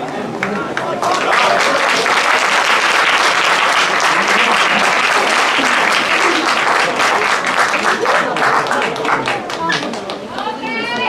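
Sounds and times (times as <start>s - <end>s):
spectators applauding: 0.0s - 11.0s.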